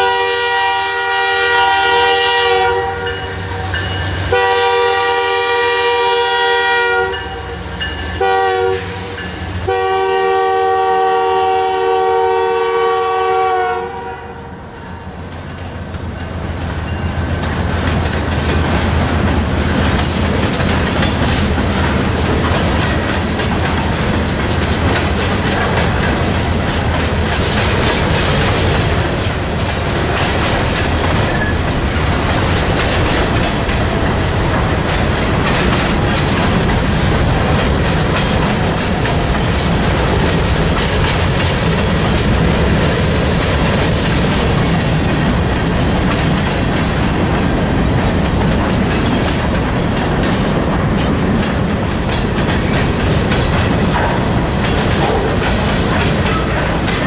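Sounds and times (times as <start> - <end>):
clickety-clack over rail joints: 0.0 - 57.0
rumble of train wheels on rail: 0.0 - 57.0.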